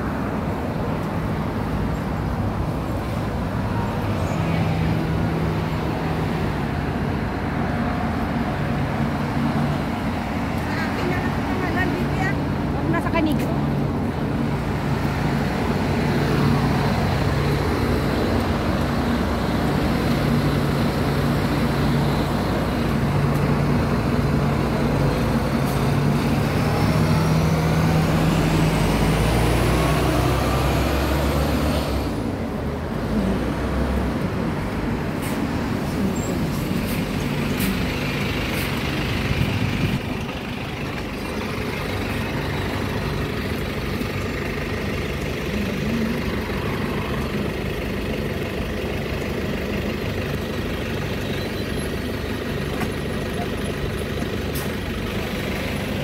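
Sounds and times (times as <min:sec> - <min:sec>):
diesel bus engine humming: 0:00.0 - 0:56.0
road traffic noise: 0:00.0 - 0:56.0.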